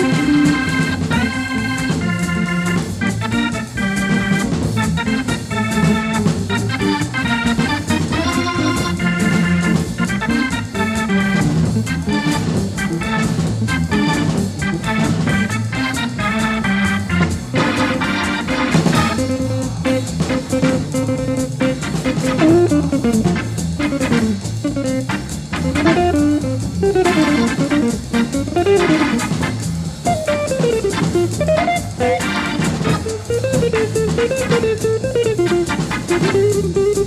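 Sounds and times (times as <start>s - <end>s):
jazz organ playing quick runs: 0.0s - 37.0s
low bass line: 0.0s - 37.0s.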